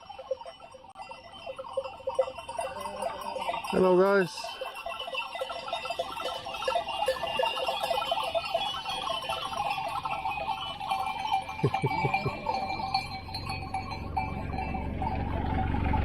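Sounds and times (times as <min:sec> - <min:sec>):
neck bells clinking: 0:00.0 - 0:15.9.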